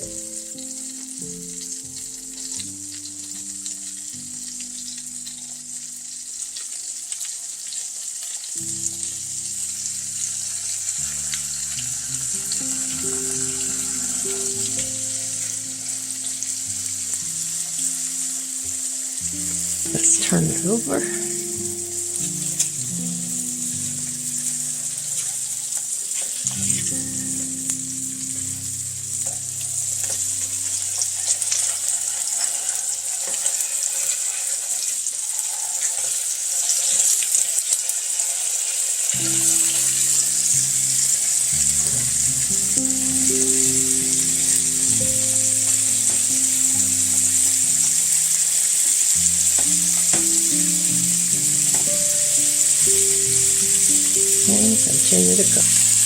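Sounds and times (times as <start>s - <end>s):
background music: 0.0s - 6.3s, 8.6s - 32.0s, 39.2s - 56.0s
chicken sizzling in a pan: 0.0s - 56.0s.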